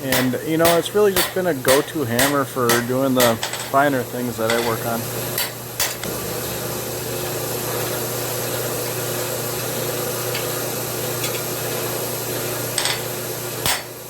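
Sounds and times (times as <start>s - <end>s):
forge blower rushing: 0.0s - 14.0s.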